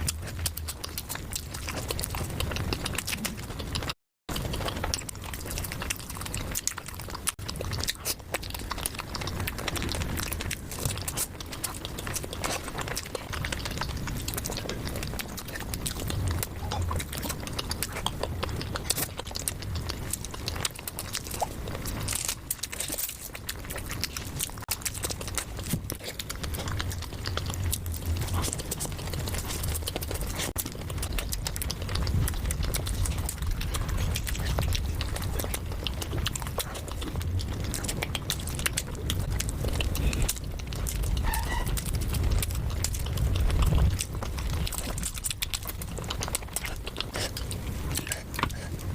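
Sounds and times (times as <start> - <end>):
person chewing food: 0.0 - 48.9.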